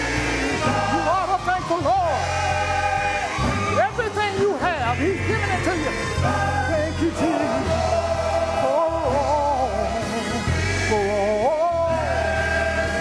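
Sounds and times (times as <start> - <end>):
gospel singing: 0.0 - 13.0
instrumental accompaniment with bass: 0.0 - 13.0.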